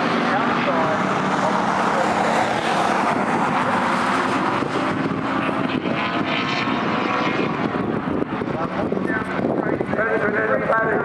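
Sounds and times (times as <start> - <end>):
racing car engines at speed: 0.0 - 11.0.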